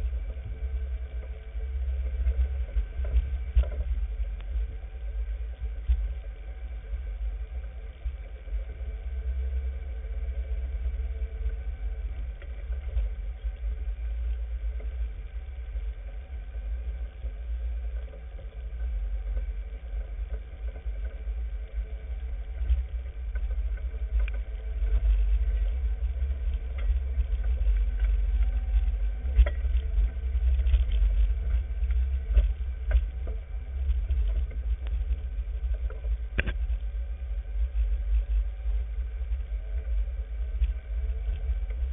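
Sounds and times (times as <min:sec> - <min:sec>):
off-road vehicle engine rumble: 0:00.0 - 0:41.9.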